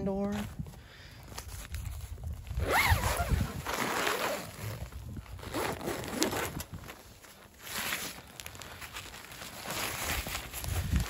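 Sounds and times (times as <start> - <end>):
tent zipper being pulled: 1.6 - 11.0.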